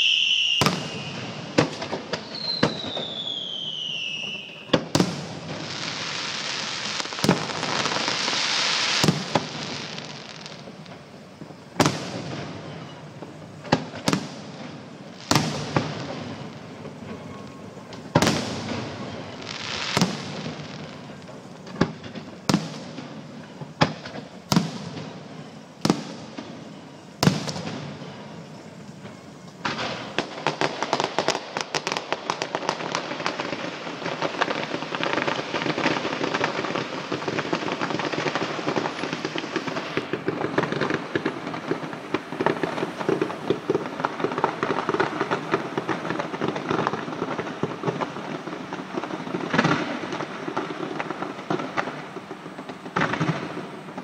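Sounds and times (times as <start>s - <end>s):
firework shells bursting: 0.0s - 54.0s.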